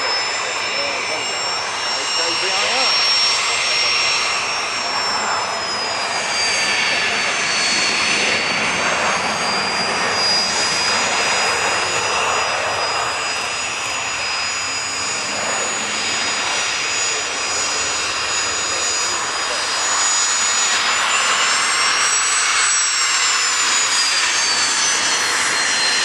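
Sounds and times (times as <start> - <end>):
jet engines taxiing: 0.0 - 26.0.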